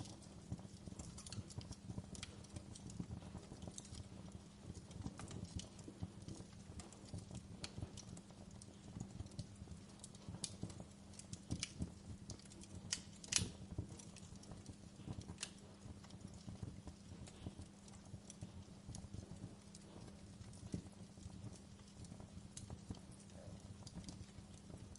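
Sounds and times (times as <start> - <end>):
faint low hum: 0.0 - 24.9
wood fire crackling: 0.0 - 24.9.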